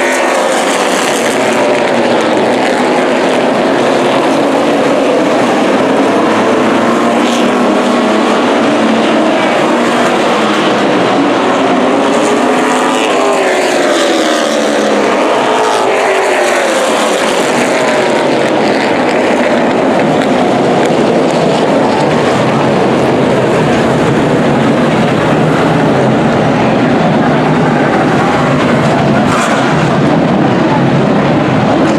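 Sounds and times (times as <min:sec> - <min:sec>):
race car engines passing: 0:00.0 - 0:31.9.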